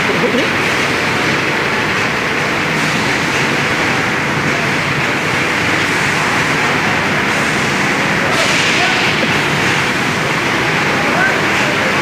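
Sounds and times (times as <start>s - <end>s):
loud machinery din: 0.0s - 12.0s.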